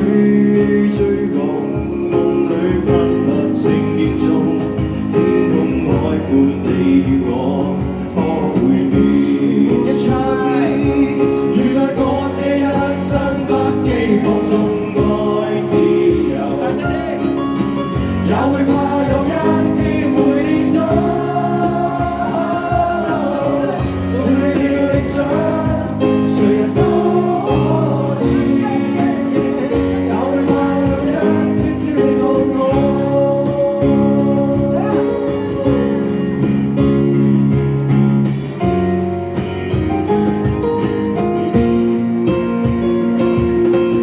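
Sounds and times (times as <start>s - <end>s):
live band music with singing: 0.0s - 44.0s.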